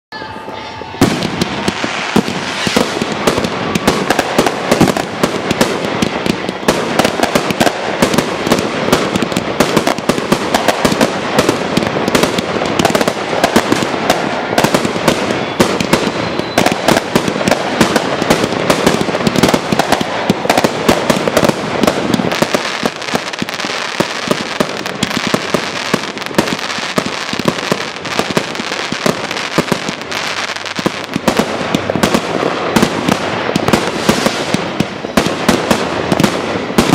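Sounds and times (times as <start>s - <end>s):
fireworks crackling and banging: 0.1s - 36.9s.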